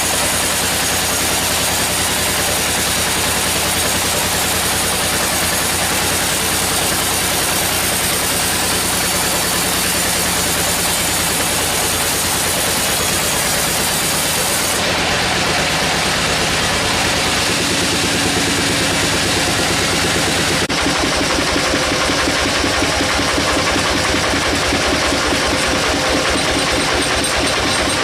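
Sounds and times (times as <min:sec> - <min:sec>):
sawmill machinery running: 0:00.0 - 0:28.0.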